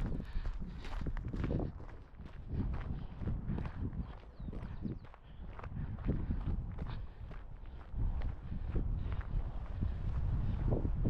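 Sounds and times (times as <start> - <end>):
footsteps on a trail: 0.0 - 11.0.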